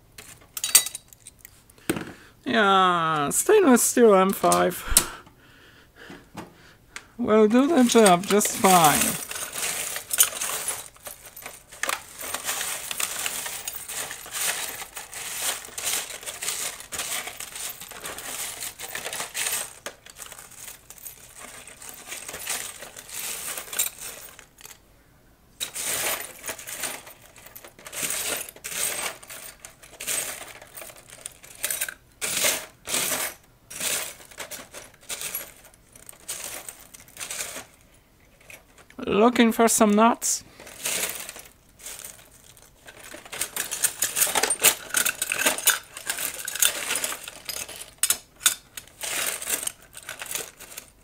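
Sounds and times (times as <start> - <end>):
metal screws rattling in tray: 0.2 - 1.5, 7.5 - 24.8, 25.6 - 39.0, 40.6 - 51.0.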